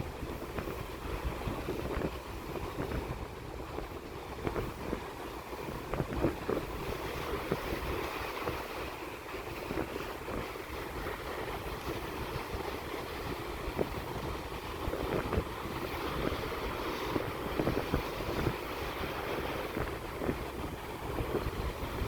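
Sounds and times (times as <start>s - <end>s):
waves washing on shore: 0.0s - 22.0s
wind on microphone: 0.0s - 22.0s.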